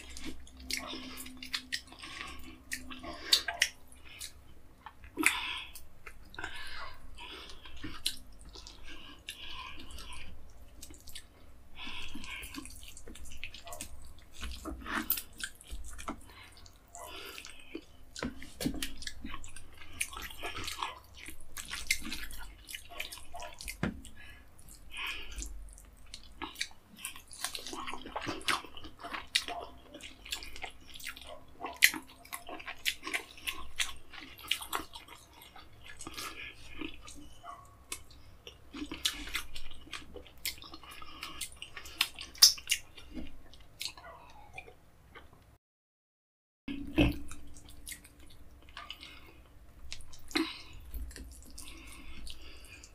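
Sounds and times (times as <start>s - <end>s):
chewing and lip smacking: 0.0s - 45.5s, 46.7s - 52.9s.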